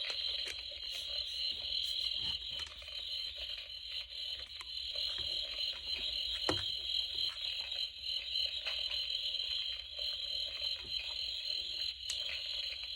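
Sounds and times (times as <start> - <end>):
crickets chirring: 0.0 - 12.9.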